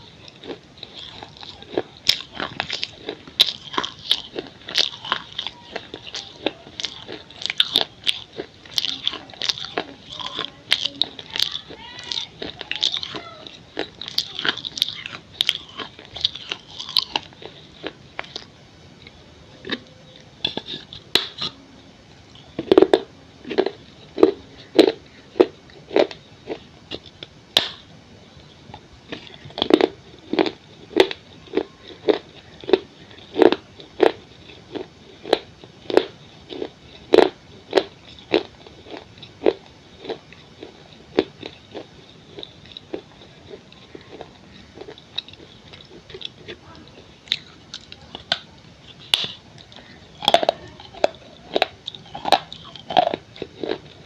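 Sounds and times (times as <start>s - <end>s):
crunchy chewing of baked clay: 0.0s - 54.0s.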